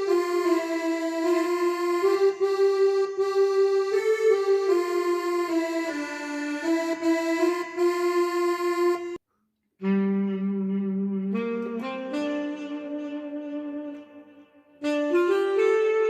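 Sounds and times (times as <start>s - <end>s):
keyboard reedy melody: 0.0s - 9.2s, 9.8s - 16.0s.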